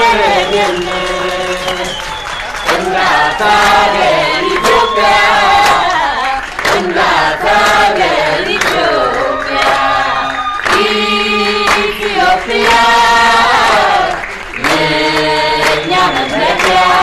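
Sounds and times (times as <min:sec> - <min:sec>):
group of people singing: 0:00.0 - 0:17.0
hands clapping: 0:00.0 - 0:17.0.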